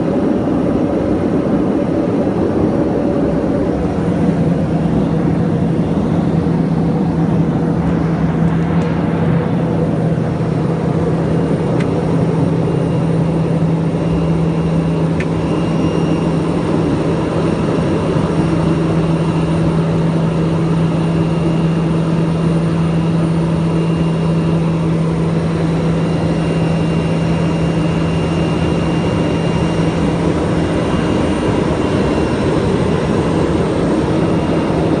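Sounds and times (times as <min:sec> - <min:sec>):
low hum: 0:00.0 - 0:35.0
turboprop engine droning: 0:00.0 - 0:35.0.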